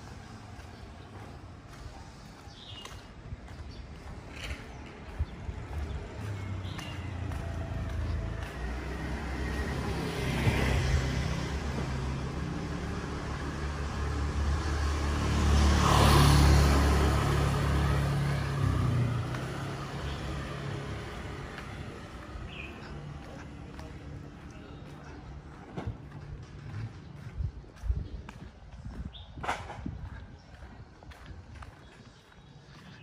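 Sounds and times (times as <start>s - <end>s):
vehicle passing: 0.0s - 29.0s
low traffic rumble: 0.0s - 33.0s.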